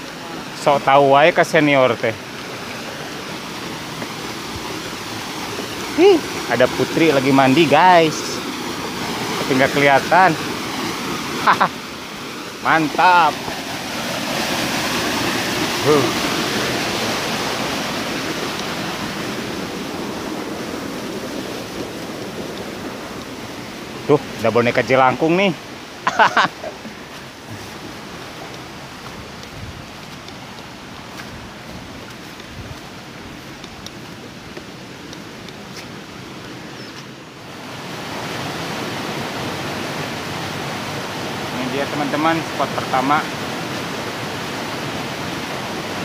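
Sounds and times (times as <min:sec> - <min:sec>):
waterfall rushing water: 0:00.0 - 0:46.0.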